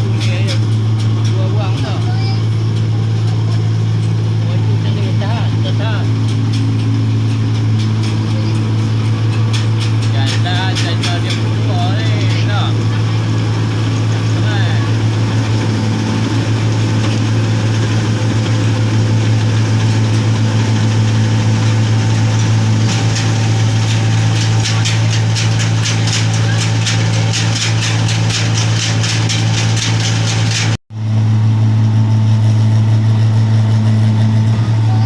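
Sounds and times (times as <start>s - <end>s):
fast regular clatter: 0.0s - 30.8s
diesel engine running: 0.0s - 35.0s.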